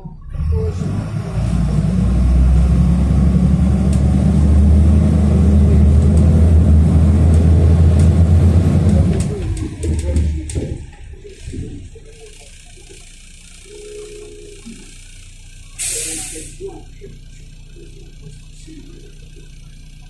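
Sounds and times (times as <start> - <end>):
bus engine running under load: 0.0 - 20.0.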